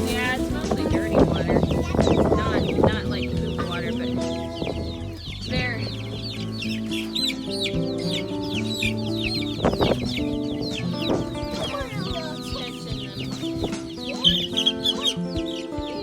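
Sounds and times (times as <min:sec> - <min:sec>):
background music with held notes: 0:00.0 - 0:16.0
chicks peeping: 0:00.0 - 0:16.0.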